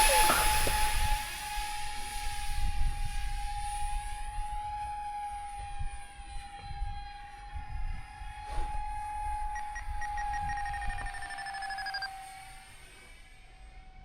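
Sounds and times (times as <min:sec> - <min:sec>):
electric ducted fans whining: 0:00.0 - 0:14.0.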